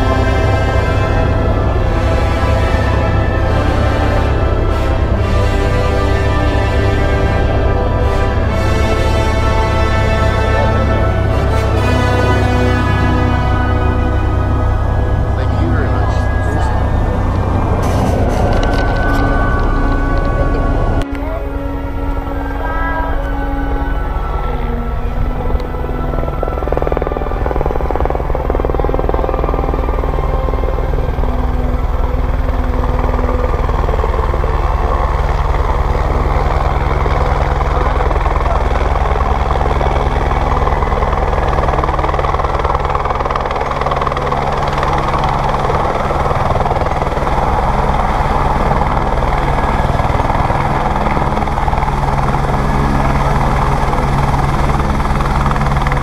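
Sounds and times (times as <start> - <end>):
helicopter rotor and turbine: 0.0 - 56.0.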